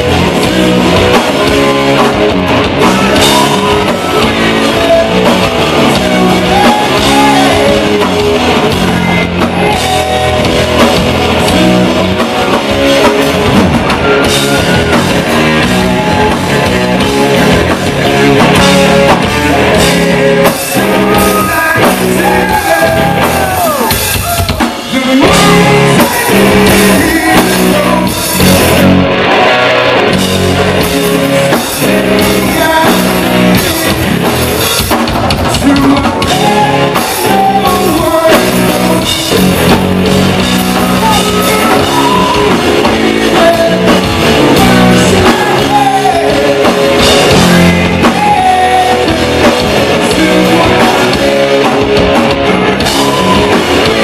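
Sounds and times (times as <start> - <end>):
person singing: 0.0 - 28.7, 31.5 - 34.8, 35.5 - 54.0
bass guitar: 0.0 - 54.0
distorted electric guitars: 0.0 - 54.0
drum kit: 0.0 - 54.0.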